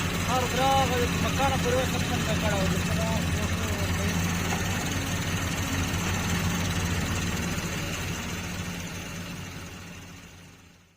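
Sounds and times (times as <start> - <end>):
diesel excavator engine idling: 0.0 - 10.9.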